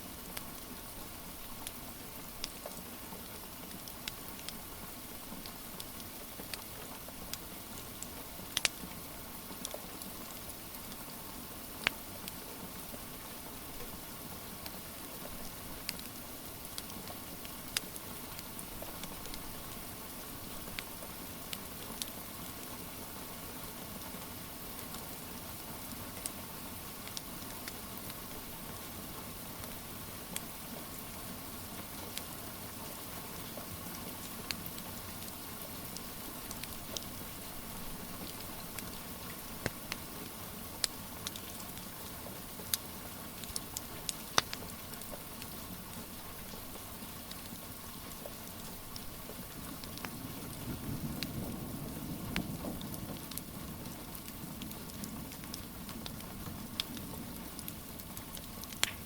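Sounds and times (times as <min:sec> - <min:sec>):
steady rain: 0:00.0 - 0:59.0
wood fire crackling: 0:00.1 - 0:11.0, 0:11.7 - 0:24.0, 0:24.7 - 0:28.9, 0:31.8 - 0:59.0.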